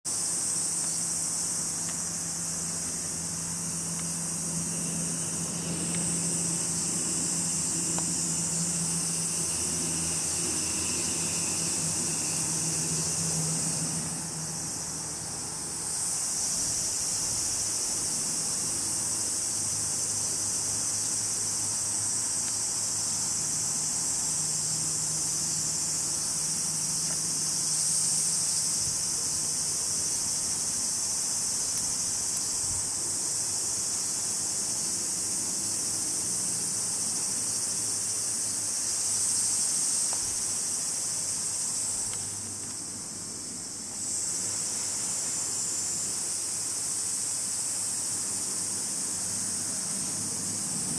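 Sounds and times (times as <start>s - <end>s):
insects shrilling: 0.1s - 50.9s.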